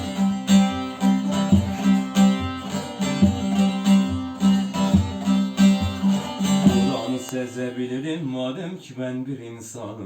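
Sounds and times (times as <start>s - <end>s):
plucked string instrument strumming: 0.0s - 9.0s.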